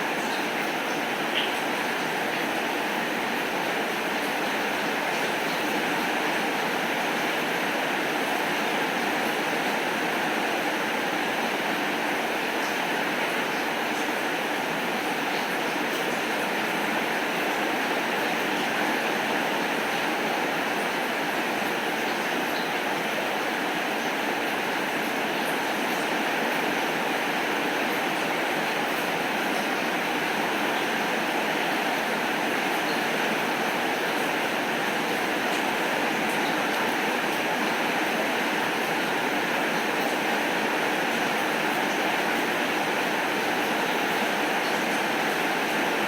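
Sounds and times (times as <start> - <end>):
steady rainfall: 0.0 - 46.0.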